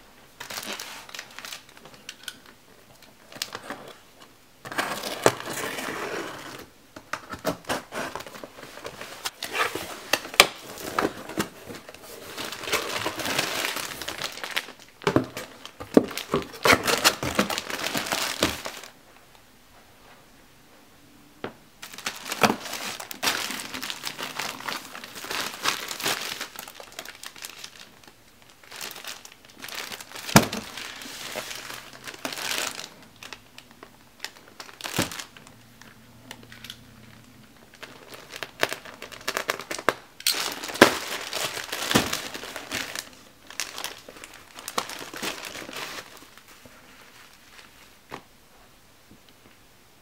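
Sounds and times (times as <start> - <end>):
plastic film crinkling: 0.4 - 4.0, 7.3 - 19.0, 21.8 - 48.2.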